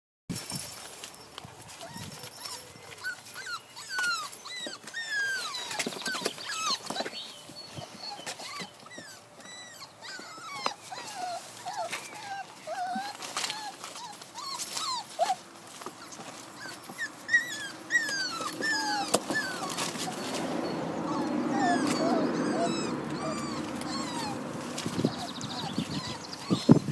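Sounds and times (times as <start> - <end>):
puppies whining and squeaking: 0.4 - 26.9.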